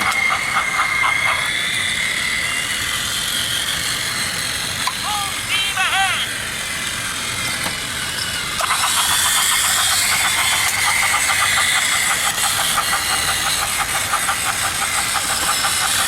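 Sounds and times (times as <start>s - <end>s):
toy train engines whirring: 0.0s - 16.0s.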